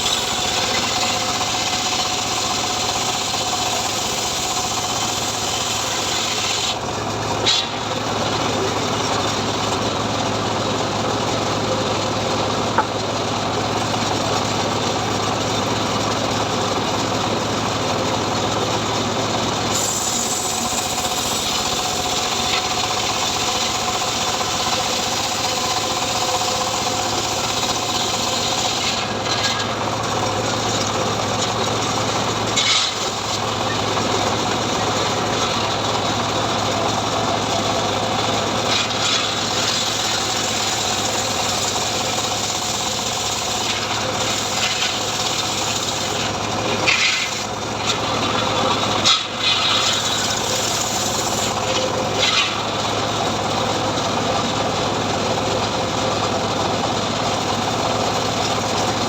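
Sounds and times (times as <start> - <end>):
chainsaw sawing wood: 0.0 - 9.8, 13.5 - 59.0.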